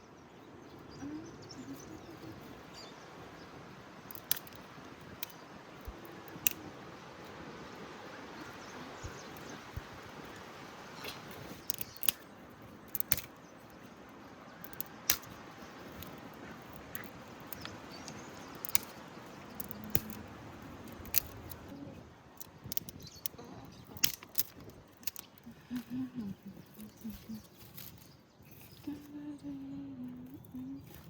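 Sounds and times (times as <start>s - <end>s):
low background hiss: 0.0s - 31.0s.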